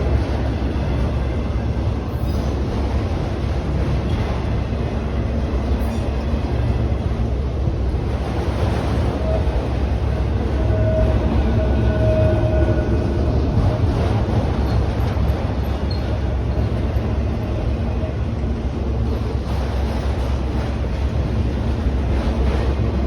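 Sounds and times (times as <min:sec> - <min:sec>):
train wheels rumbling on rail: 0:00.0 - 0:23.0
wind buffeting microphone: 0:00.0 - 0:23.0.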